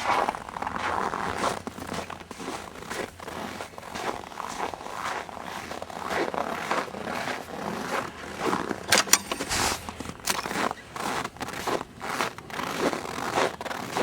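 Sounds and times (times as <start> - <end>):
crunching in deep snow: 0.0 - 14.0.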